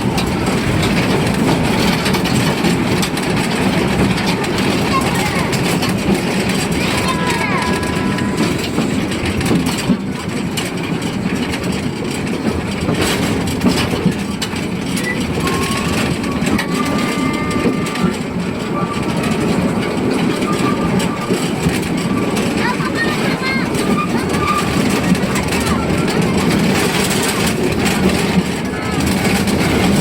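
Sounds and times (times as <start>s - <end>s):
train wheels clattering over track: 0.0s - 30.0s.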